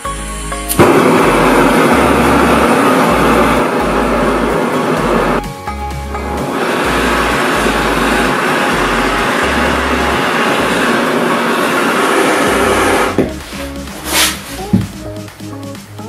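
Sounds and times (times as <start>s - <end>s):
pulsing bass line: 0.0s - 11.4s, 12.4s - 16.0s
blowtorches roaring: 0.7s - 5.4s, 6.2s - 15.0s.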